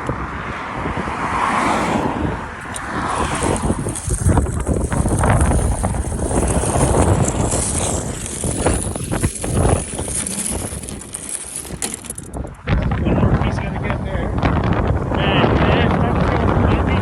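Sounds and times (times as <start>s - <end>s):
passing traffic rumble: 0.0s - 17.0s
wind buffeting microphone: 0.0s - 17.0s.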